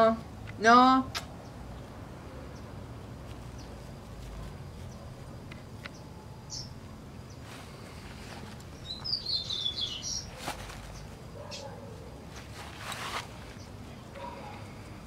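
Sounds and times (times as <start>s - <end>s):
birds chirping: 0.0s - 12.5s, 13.3s - 15.0s.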